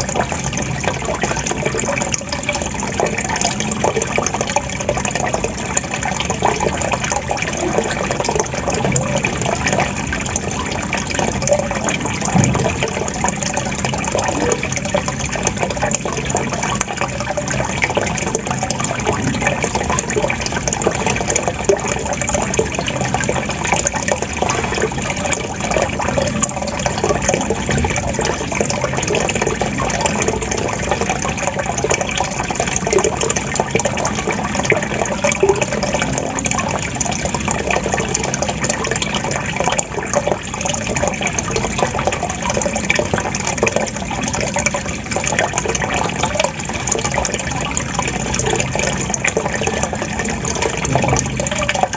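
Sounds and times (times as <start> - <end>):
water trickling and gurgling: 0.0 - 51.9.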